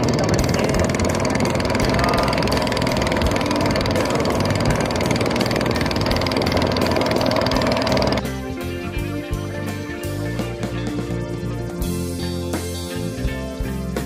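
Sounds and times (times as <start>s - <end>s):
boat engine puttering: 0.0s - 14.0s.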